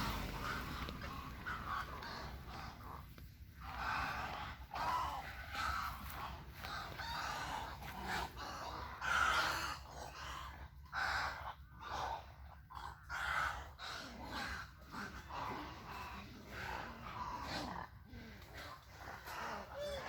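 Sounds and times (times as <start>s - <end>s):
birds giving harsh rasping calls: 0.0s - 20.0s.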